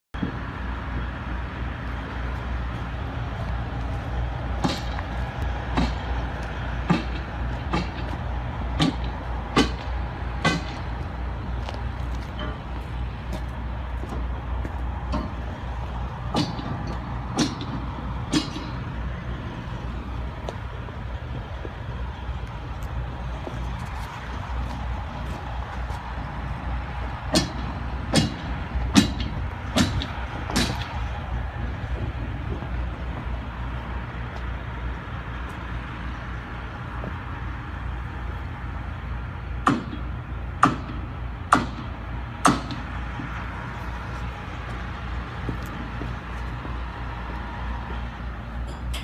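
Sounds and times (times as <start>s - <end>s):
steady low rumble: 0.1s - 49.0s
footsteps on gravel and steel grating: 0.2s - 38.6s, 42.6s - 49.0s.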